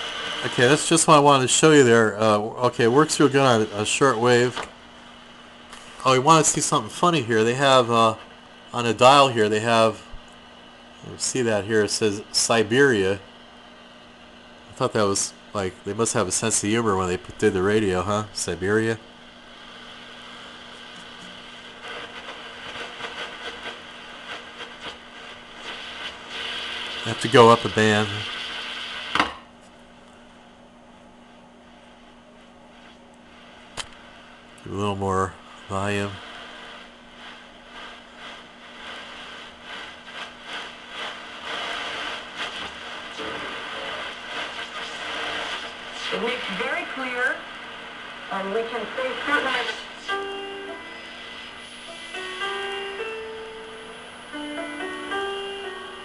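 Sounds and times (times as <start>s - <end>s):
radio crackling: 0.0s - 10.4s, 11.0s - 13.2s, 14.8s - 29.4s, 32.8s - 53.2s
radio static hiss: 0.0s - 29.5s, 32.7s - 56.0s
faint steady hum: 0.0s - 56.0s.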